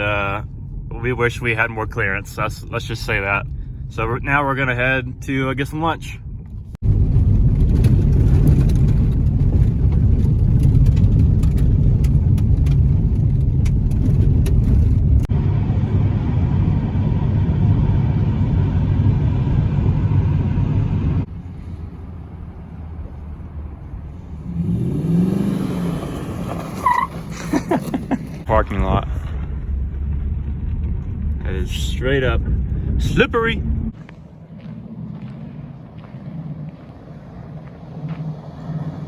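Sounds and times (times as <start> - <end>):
car driving on dirt road: 0.0 - 39.0.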